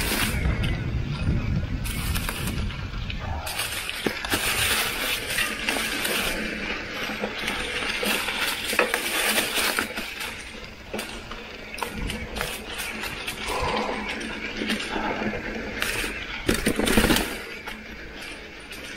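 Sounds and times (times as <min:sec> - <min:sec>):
bike tyres rolling over dry leaves: 0:00.0 - 0:18.9.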